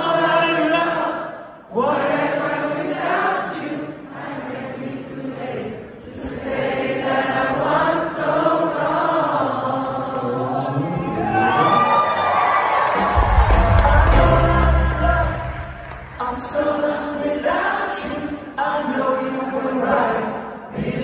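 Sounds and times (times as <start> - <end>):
crowd singing in harmony: 0.6 - 11.8, 13.0 - 21.0.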